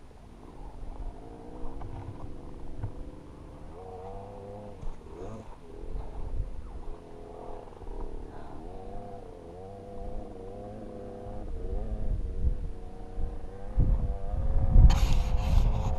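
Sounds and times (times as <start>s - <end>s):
dirt bike engine running: 0.0s - 15.9s
wind rumble on microphone: 0.0s - 15.9s.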